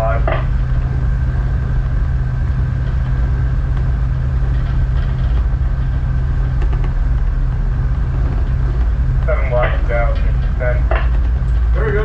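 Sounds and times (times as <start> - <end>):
tugboat diesel engines droning: 0.0 - 12.0.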